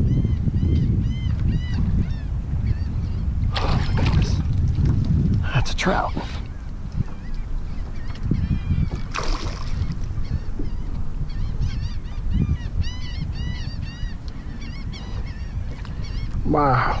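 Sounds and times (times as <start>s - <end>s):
birds calling: 0.0s - 4.5s, 5.5s - 17.0s.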